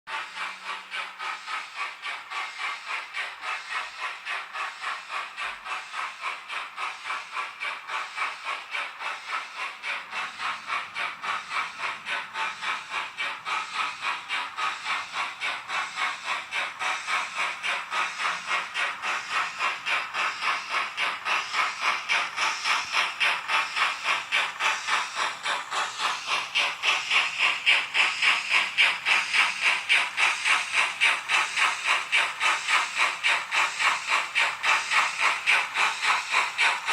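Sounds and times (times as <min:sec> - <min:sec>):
hissing steam locomotive chuffs: 0:00.1 - 0:36.9.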